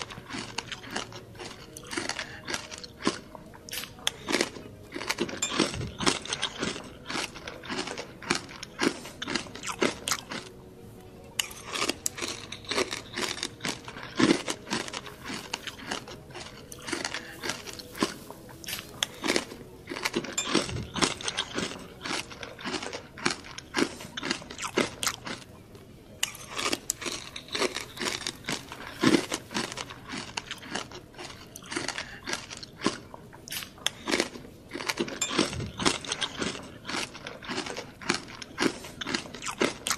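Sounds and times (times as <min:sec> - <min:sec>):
crunching and chewing crispy food: 0:00.0 - 0:39.9.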